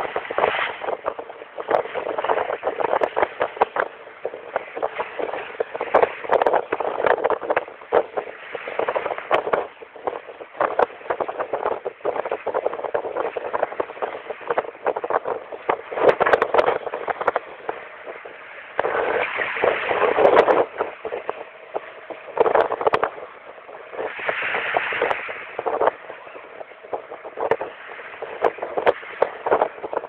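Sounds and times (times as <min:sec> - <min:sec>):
strong wind gusts: 0:00.0 - 0:30.0
water slapping against boat hull: 0:00.0 - 0:30.0.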